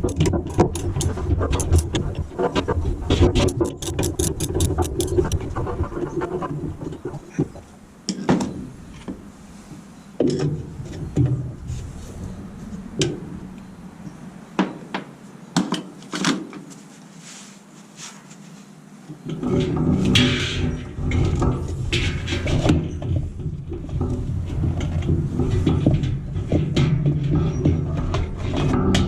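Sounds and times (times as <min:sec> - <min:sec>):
rubbing and scraping: 0:00.0 - 0:07.8, 0:09.0 - 0:13.4, 0:16.6 - 0:29.0.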